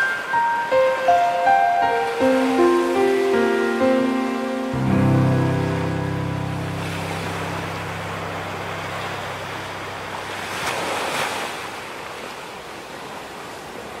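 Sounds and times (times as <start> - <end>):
ocean surf washing in: 0.0 - 14.0.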